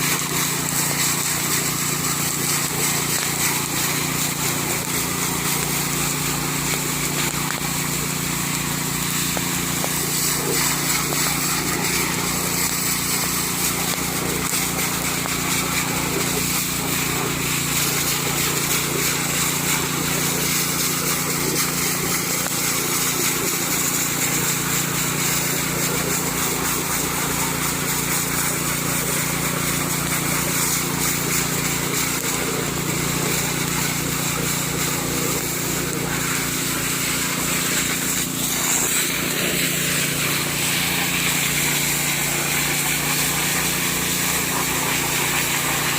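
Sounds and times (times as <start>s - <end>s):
water pump petrol engine running: 0.0s - 45.9s.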